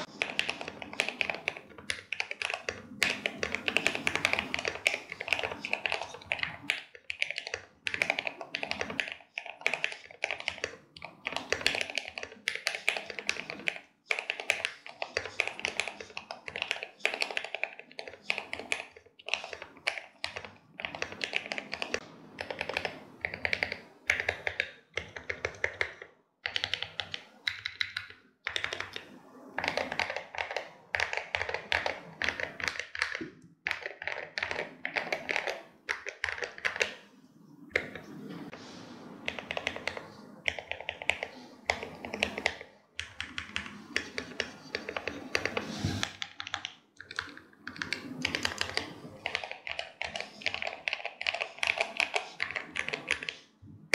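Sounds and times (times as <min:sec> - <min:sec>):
fast keyboard typing: 0:00.0 - 0:37.0, 0:39.2 - 0:53.5.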